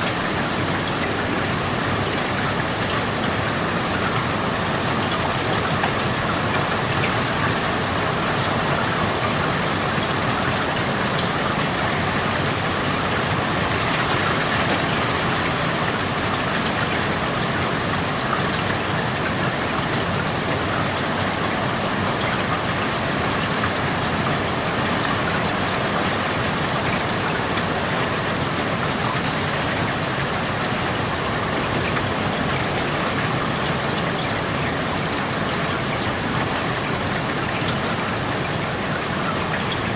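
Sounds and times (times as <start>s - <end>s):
raindrops pattering: 0.0s - 39.9s
steady rain: 0.0s - 39.9s.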